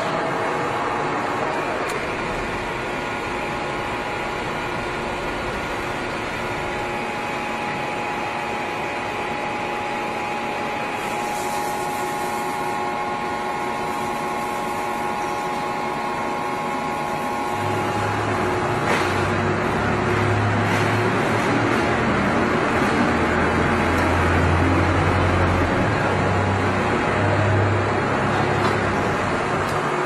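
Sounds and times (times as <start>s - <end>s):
lathe humming and whining: 0.0s - 30.0s.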